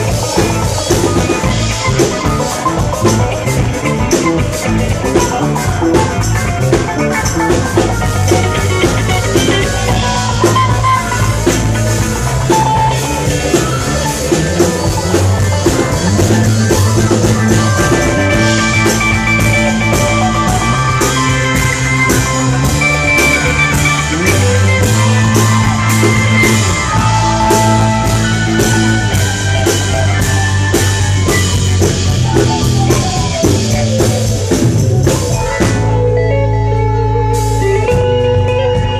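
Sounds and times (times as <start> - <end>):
country-rock band playing: 0.0 - 38.9.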